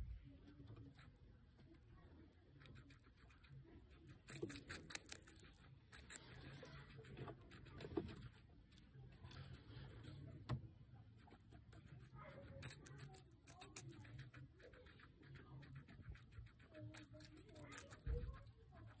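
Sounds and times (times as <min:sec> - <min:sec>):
guinea pig crunching pepper: 0:00.2 - 0:19.0.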